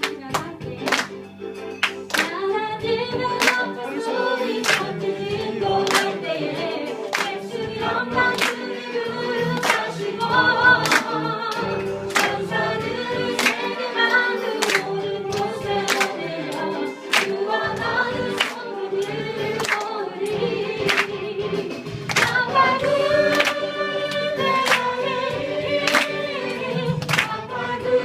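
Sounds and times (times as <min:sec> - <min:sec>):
instrumental accompaniment: 0:00.0 - 0:28.0
group singing gospel song: 0:02.1 - 0:28.0.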